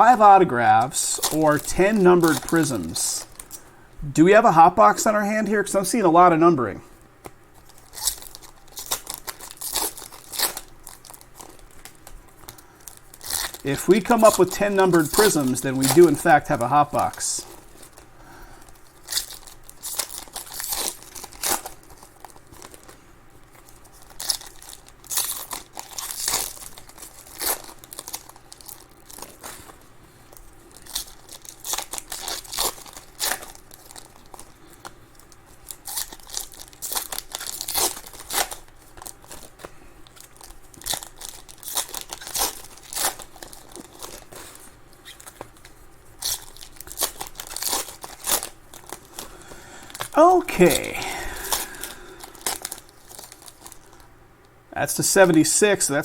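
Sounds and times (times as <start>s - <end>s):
card pack wrappers tearing: 0.0s - 3.7s, 7.2s - 54.1s.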